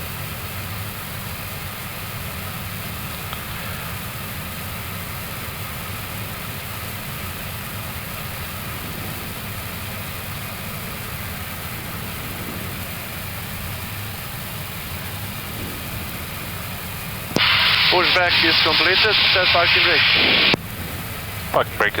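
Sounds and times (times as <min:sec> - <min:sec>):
jet engines idling hiss: 0:00.1 - 0:22.0.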